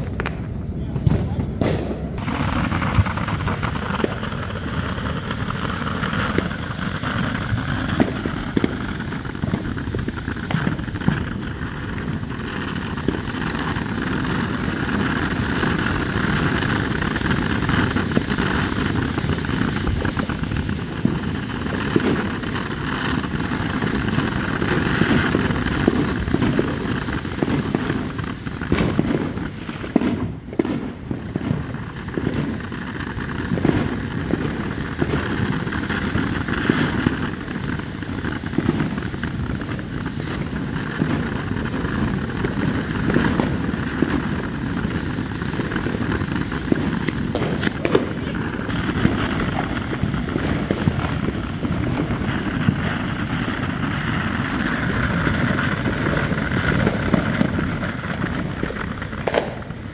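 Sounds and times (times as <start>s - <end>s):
firework fountains hissing: 0.0s - 59.9s.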